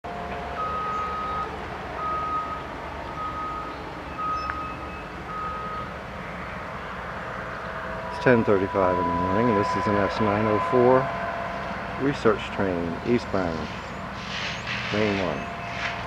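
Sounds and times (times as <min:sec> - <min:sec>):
constant low rumble: 0:00.0 - 0:16.0
vehicle backup alarm beeping: 0:00.1 - 0:16.0.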